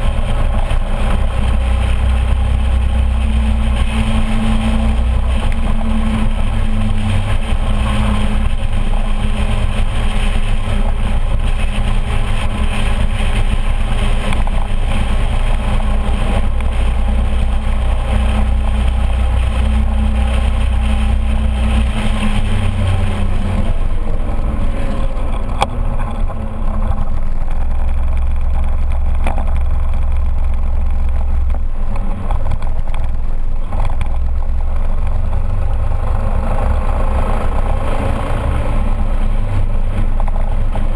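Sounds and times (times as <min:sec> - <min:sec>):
scooter engine running: 0:00.0 - 0:40.9
wind and road noise: 0:00.0 - 0:40.9.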